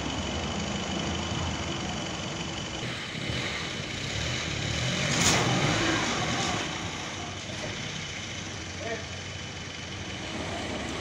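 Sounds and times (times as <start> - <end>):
sawmill engine drone: 0.0 - 11.0.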